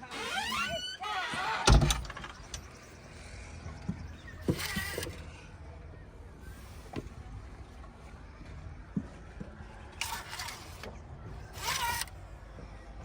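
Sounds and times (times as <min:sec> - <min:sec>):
diesel machinery rumbling: 0:00.0 - 0:13.0.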